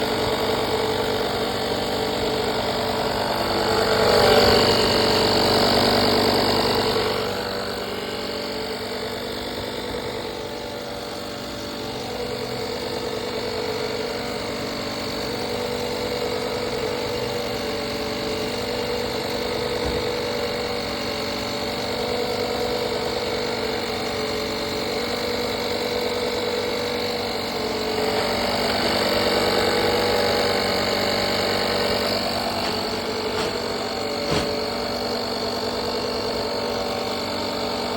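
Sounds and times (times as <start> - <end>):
air compressor humming: 0.0 - 37.9.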